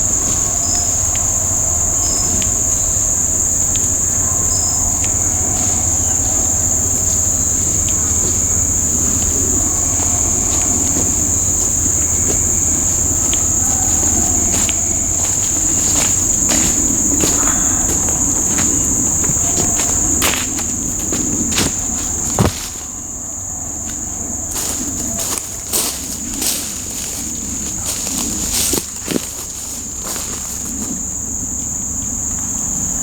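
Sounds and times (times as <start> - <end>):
clicks and rustles in leaf litter: 0.0 - 23.2, 23.8 - 31.2
high-pitched insect chorus: 0.0 - 33.0.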